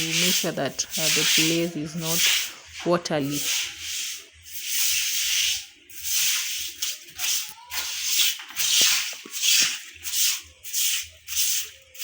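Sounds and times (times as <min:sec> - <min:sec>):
broom sweeping water: 0:00.0 - 0:12.0.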